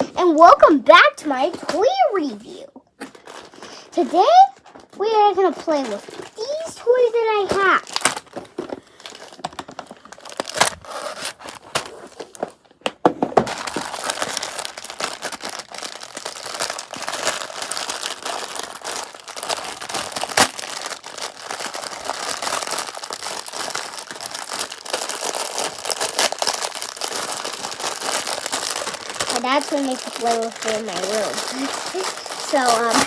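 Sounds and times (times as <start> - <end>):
crinkling of something handled: 1.4 - 12.8, 13.4 - 33.0.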